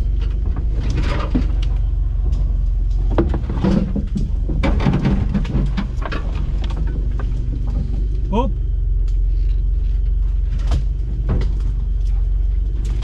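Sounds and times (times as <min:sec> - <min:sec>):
vehicle engine running: 0:00.0 - 0:13.0
vehicle knocks and rattles: 0:00.0 - 0:13.0.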